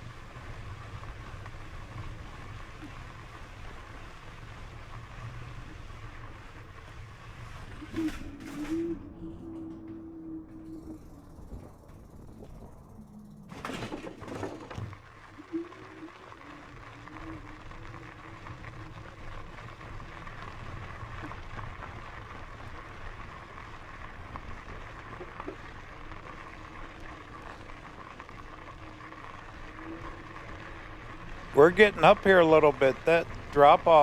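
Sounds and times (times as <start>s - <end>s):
bike rolling on dirt trail: 0.0s - 9.8s, 10.6s - 34.0s
faint steady hum: 0.0s - 34.0s.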